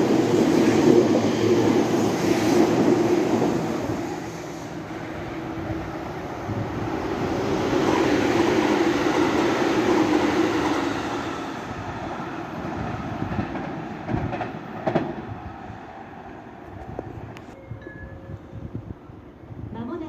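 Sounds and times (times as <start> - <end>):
electric train passing: 0.0 - 19.7.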